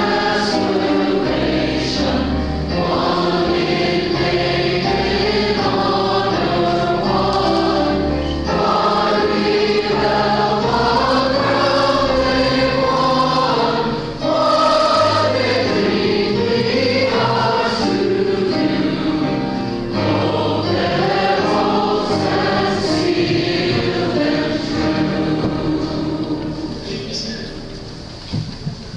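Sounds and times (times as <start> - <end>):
choir singing in parts: 0.0 - 27.0
held low accompanying notes: 0.0 - 28.9.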